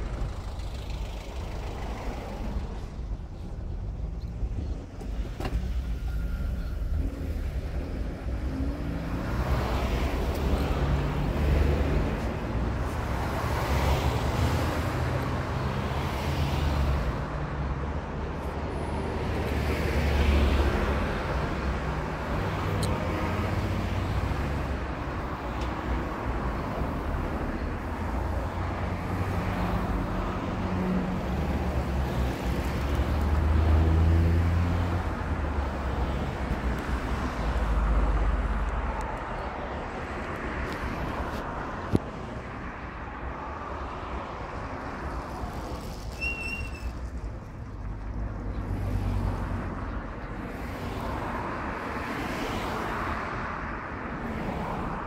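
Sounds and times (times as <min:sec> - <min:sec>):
road noise: 0:00.0 - 0:55.0.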